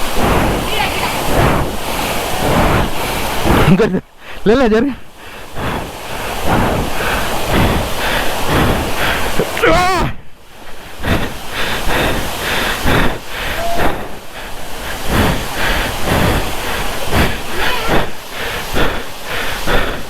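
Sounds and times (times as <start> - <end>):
water rushing over a waterfall: 0.0 - 20.0.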